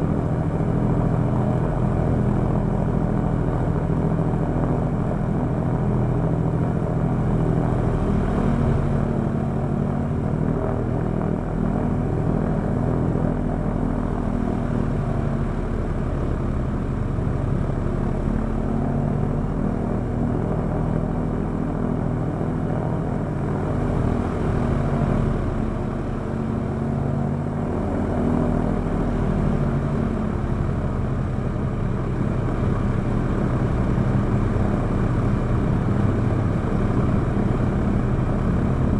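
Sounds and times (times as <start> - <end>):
radial aircraft engine running: 0.0 - 38.9.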